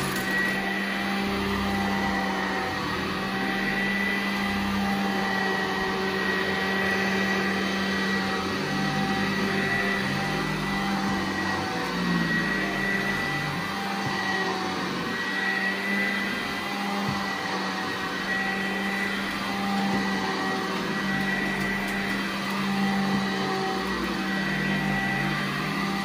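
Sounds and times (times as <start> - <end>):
vacuum cleaner running on carpet: 0.0 - 26.0.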